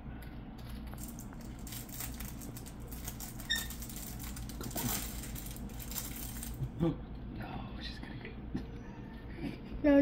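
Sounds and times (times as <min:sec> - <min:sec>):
aquarium pump hum: 0:00.0 - 0:10.0.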